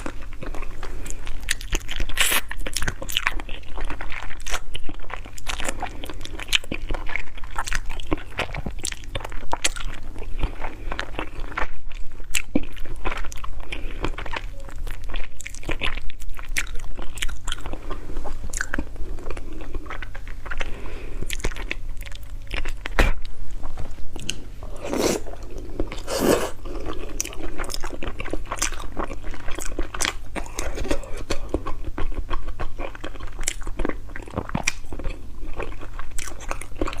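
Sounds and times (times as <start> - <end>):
chewing with bone crunches: 0.0 - 37.0.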